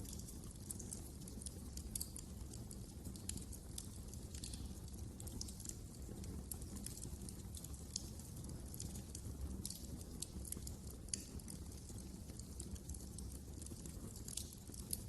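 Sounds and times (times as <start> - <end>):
low rumble of burning fire: 0.0 - 15.0
wood fire crackling and popping: 0.0 - 15.0.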